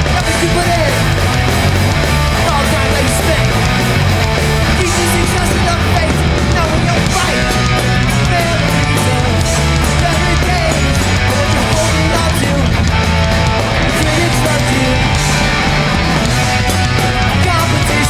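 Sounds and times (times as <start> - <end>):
punk band playing live: 0.0 - 18.0.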